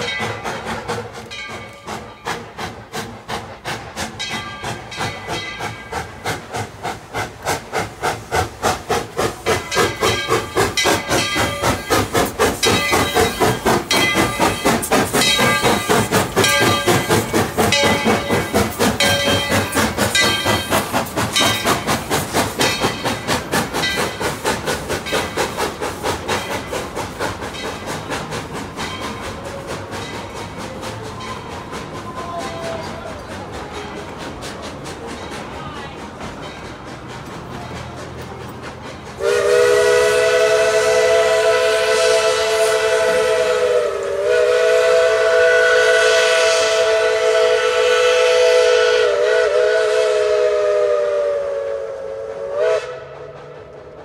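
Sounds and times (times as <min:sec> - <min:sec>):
steam locomotive chuffing: 0:00.0 - 0:54.0
train coaches rolling by: 0:00.0 - 0:54.0.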